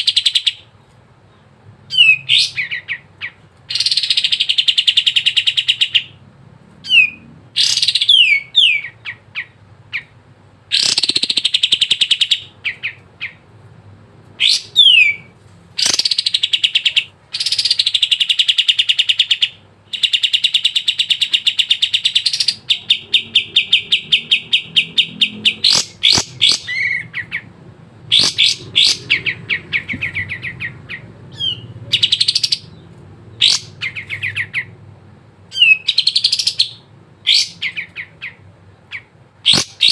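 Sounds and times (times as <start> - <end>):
bird singing trilled phrases: 1.3 - 6.2, 6.8 - 13.4, 14.4 - 27.5, 28.1 - 34.8, 35.5 - 39.9.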